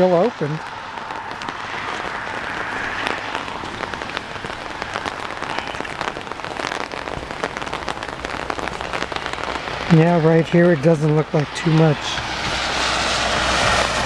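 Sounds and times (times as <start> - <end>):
light rain falling: 0.0 - 14.0
raindrops ticking: 0.0 - 14.0.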